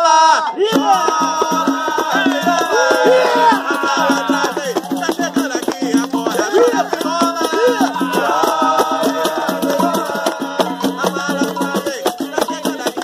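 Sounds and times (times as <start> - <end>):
voices singing a chant together: 0.0 - 13.0
hand drum beating: 0.7 - 13.0.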